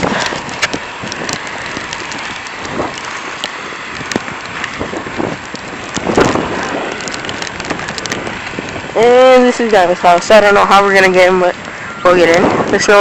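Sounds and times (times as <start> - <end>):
wind hiss on microphone: 0.0 - 13.0.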